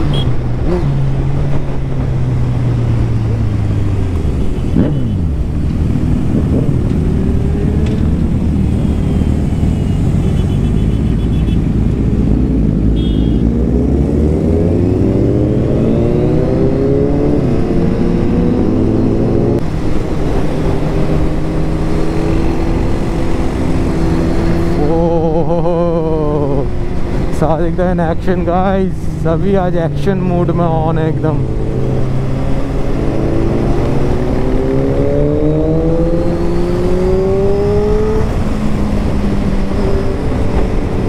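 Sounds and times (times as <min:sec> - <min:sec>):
motorcycle engine accelerating: 0:00.0 - 0:27.2, 0:29.2 - 0:41.0
road rumble: 0:00.0 - 0:41.0
wind: 0:00.0 - 0:41.0.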